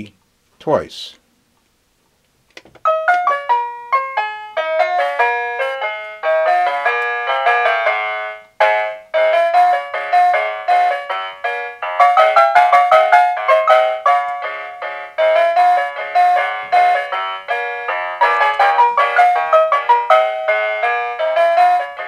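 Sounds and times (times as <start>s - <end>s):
toy sound module melody: 2.9s - 22.0s.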